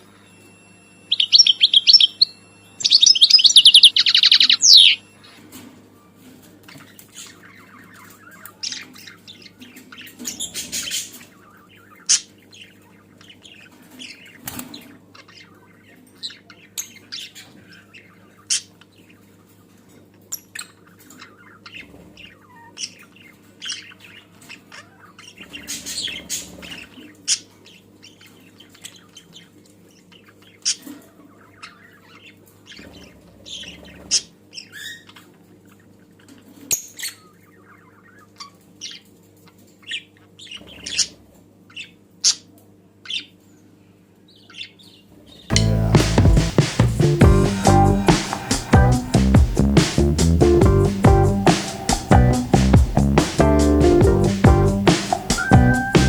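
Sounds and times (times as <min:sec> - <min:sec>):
lovebirds chirping and chattering: 0:01.1 - 0:43.4, 0:44.3 - 0:56.0.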